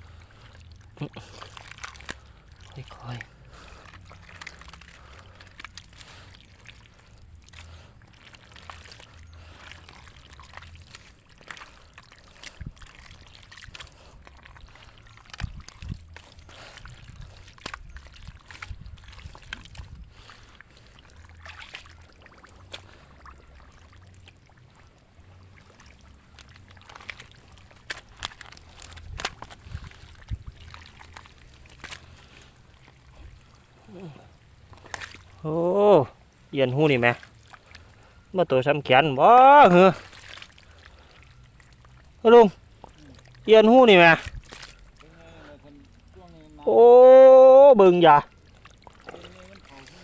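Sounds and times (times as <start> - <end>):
muddy water sloshing: 0.0 - 50.0
sharp splashes and knocks: 0.4 - 35.4, 36.4 - 38.2, 39.6 - 45.1, 48.2 - 50.0.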